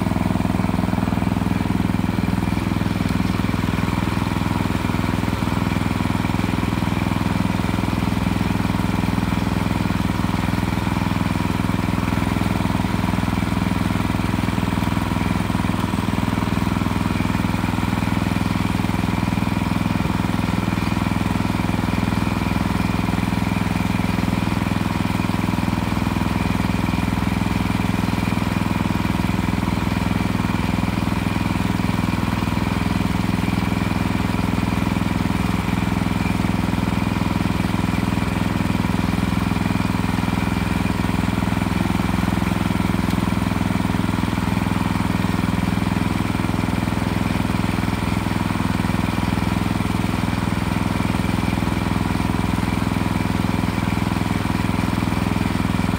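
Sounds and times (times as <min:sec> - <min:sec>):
small gas engine running: 0:00.0 - 0:55.9.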